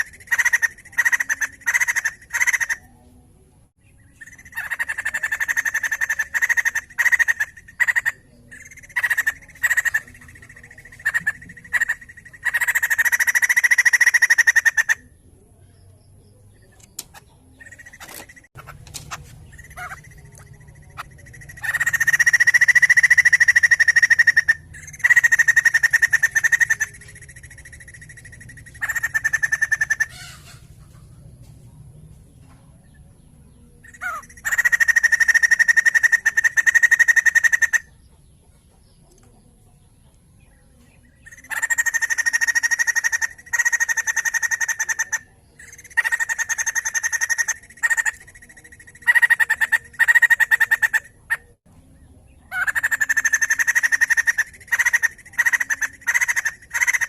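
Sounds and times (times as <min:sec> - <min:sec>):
bird chattering calls: 0:00.0 - 0:02.9, 0:04.0 - 0:15.1, 0:16.7 - 0:31.2, 0:33.8 - 0:38.2, 0:41.0 - 0:51.6, 0:52.5 - 0:57.0.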